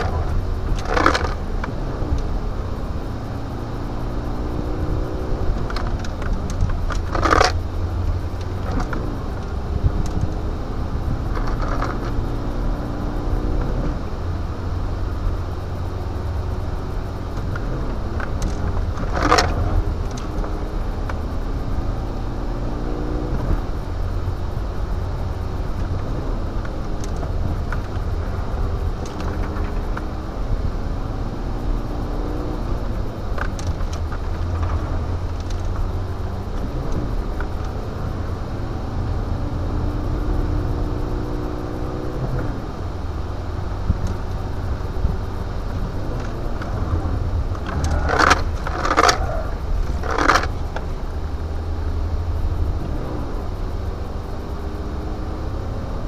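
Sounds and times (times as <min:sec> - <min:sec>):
diesel engine accelerating: 0:00.0 - 0:56.0.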